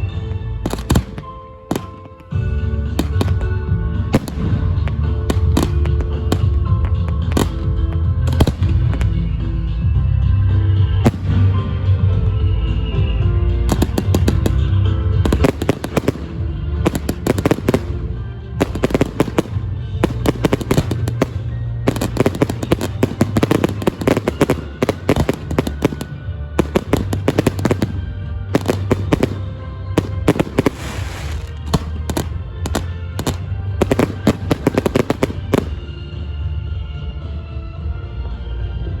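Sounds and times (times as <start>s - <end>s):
fireworks bangs and crackles: 0.0s - 37.4s
music: 0.0s - 39.0s.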